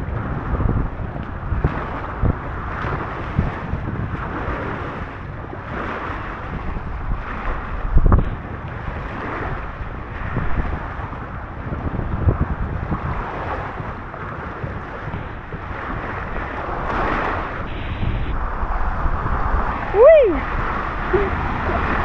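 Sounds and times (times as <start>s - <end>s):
steady rushing noise: 0.0s - 22.0s
wind buffeting microphone: 0.0s - 22.0s.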